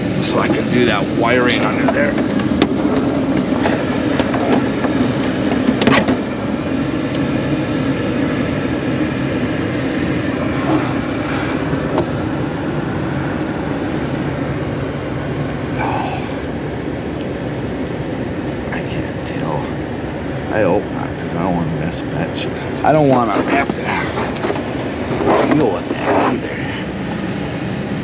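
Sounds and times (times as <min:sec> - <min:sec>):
mechanical drone with low hum: 0:00.0 - 0:28.0.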